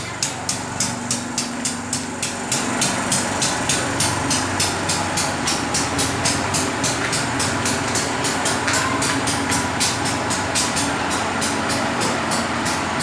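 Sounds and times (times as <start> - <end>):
passing train hum: 0.0 - 13.0.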